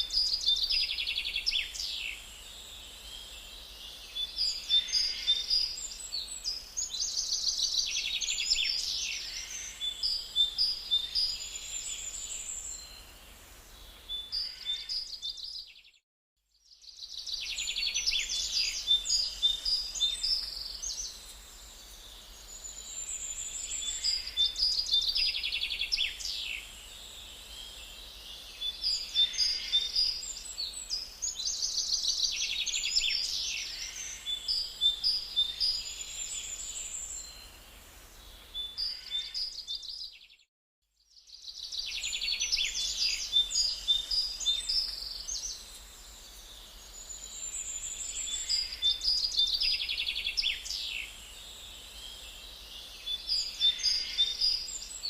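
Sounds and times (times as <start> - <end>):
songbirds chirping and trilling: 0.0 - 16.0, 16.6 - 55.0.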